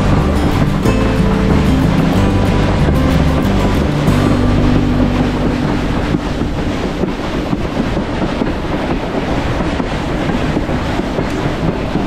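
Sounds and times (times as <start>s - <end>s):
train rumbling: 0.0s - 12.0s
wind on microphone: 0.0s - 12.0s.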